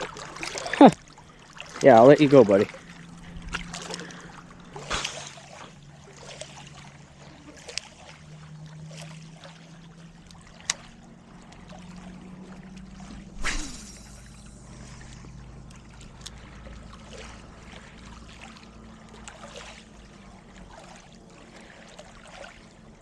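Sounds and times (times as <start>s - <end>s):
waves lapping against rocks: 0.0s - 23.0s
steady low hum: 2.4s - 23.0s.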